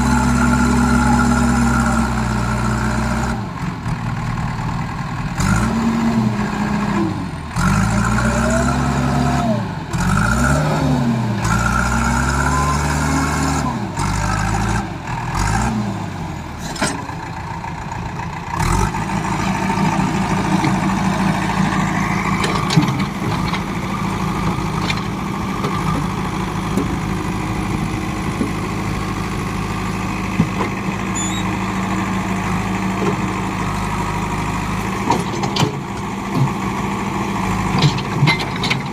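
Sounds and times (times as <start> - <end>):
diesel engines revving: 0.0 - 38.9.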